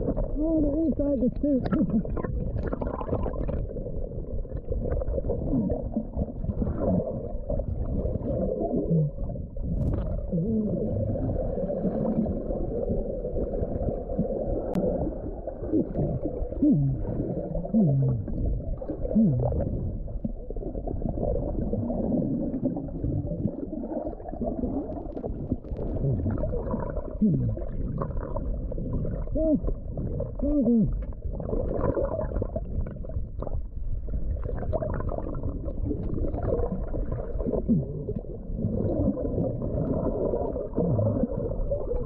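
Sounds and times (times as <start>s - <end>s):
muffled underwater churning water: 0.0s - 42.0s
warbling voice through water: 0.0s - 42.0s.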